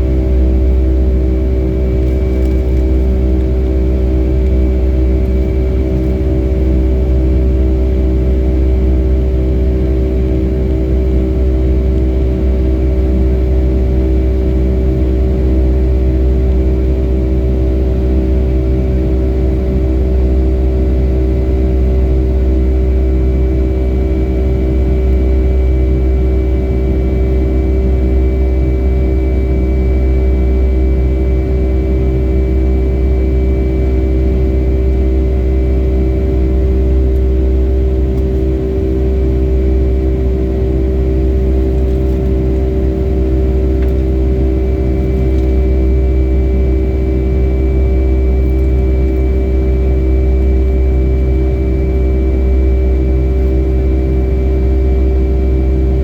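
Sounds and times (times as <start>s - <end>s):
jet engines heard from cabin: 0.0s - 56.0s.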